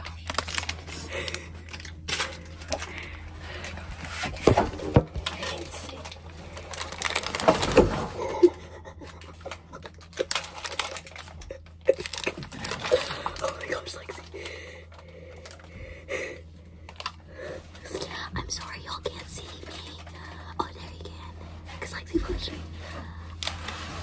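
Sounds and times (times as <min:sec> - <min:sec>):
plastic wrapper crinkling and tearing: 0:00.0 - 0:04.3, 0:05.2 - 0:15.7, 0:16.9 - 0:21.0, 0:23.3 - 0:24.0
steady low hum: 0:00.0 - 0:24.0.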